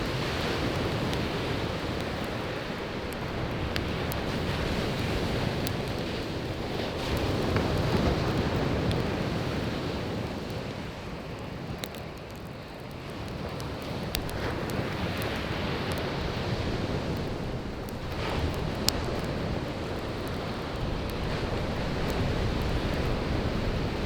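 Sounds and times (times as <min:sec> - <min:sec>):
campfire crackling: 0:00.0 - 0:24.0
sea waves washing on shore: 0:00.0 - 0:24.0.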